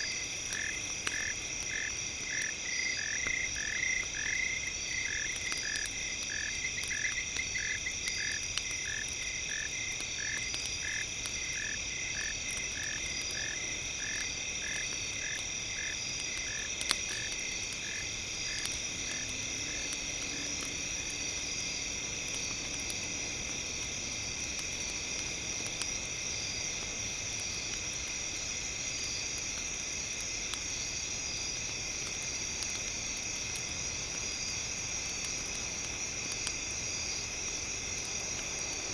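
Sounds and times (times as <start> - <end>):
campfire crackling: 0.0 - 38.9
high insect chorus: 0.0 - 38.9.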